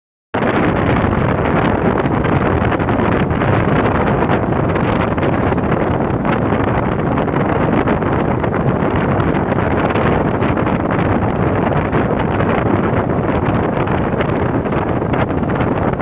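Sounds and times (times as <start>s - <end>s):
moving train running noise: 0.4s - 16.0s
wind buffeting microphone: 0.4s - 16.0s.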